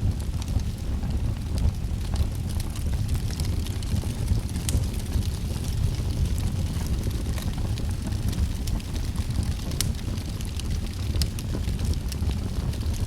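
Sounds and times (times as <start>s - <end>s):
fire rumbling: 0.0s - 13.0s
wood fire crackling and popping: 0.0s - 13.0s.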